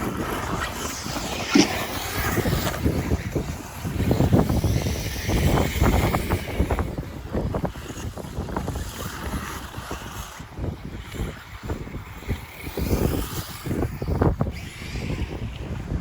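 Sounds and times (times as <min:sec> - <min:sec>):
radio-controlled cars running: 0:00.0 - 0:16.0
wind rumbling on microphone: 0:00.0 - 0:16.0.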